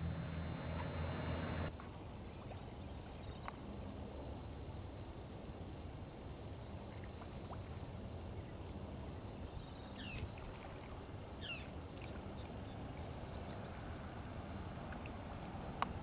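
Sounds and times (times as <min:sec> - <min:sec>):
water: 0:00.0 - 0:16.0
wind: 0:00.0 - 0:16.0.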